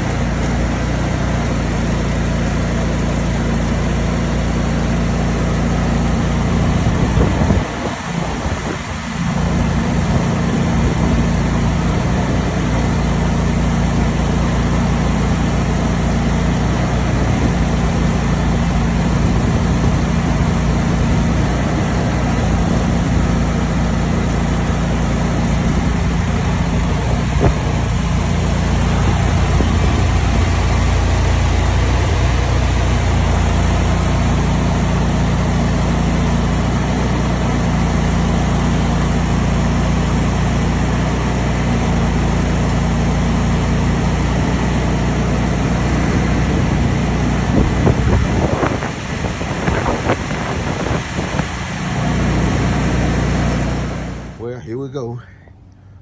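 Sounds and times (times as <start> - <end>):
machine droning: 0.0 - 56.0.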